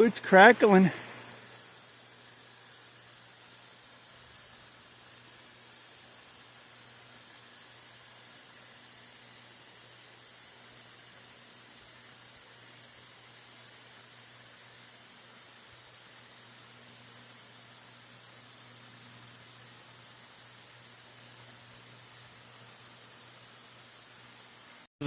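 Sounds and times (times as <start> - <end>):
power lines crackling and hissing: 0.0 - 24.9.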